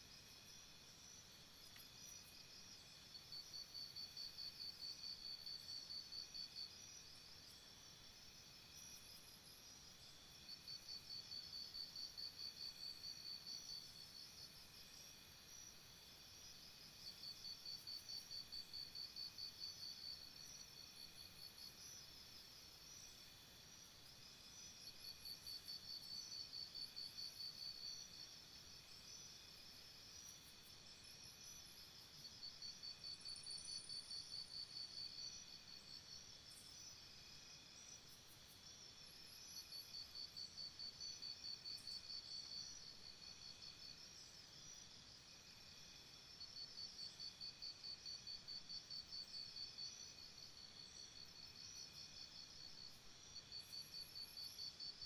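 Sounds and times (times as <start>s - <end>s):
faint crickets chirping: 0.0s - 55.0s
nearby cricket chirping: 0.0s - 55.0s.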